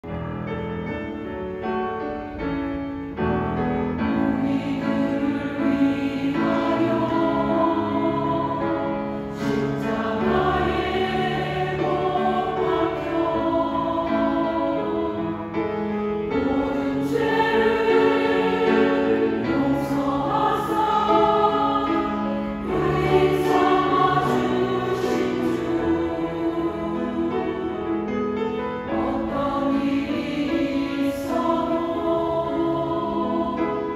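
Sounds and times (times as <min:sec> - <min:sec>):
piano accompaniment: 0:00.0 - 0:33.9
women's choir singing a hymn: 0:03.0 - 0:33.9.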